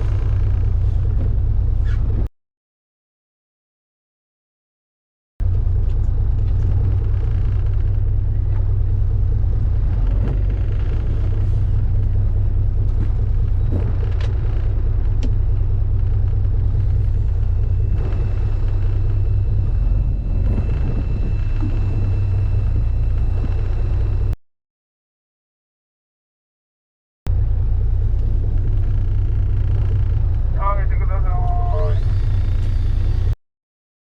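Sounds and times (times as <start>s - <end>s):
boat engine rumble: 0.0s - 2.3s, 5.4s - 24.4s, 27.3s - 33.4s.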